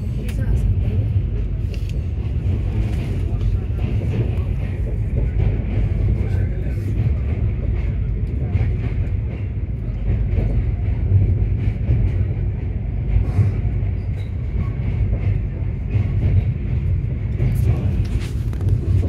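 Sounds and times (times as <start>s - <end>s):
train rumbling on bridge: 0.0s - 19.0s
train wheels clanking: 0.1s - 19.0s.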